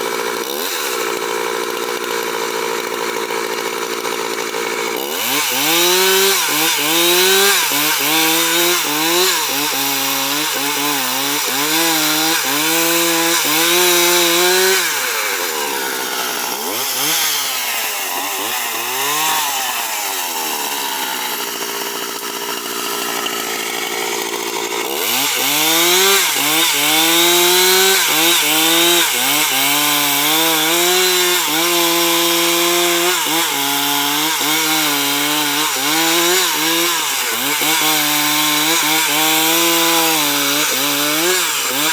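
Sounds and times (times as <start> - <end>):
chainsaw cutting log: 0.0 - 41.9.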